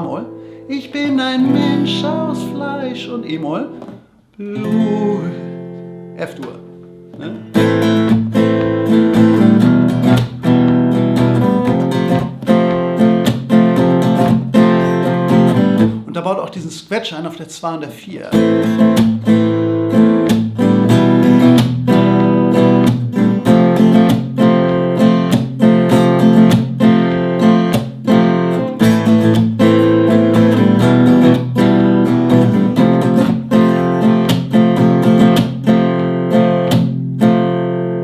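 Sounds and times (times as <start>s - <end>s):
acoustic guitar strumming: 0.0s - 16.2s, 18.3s - 38.0s.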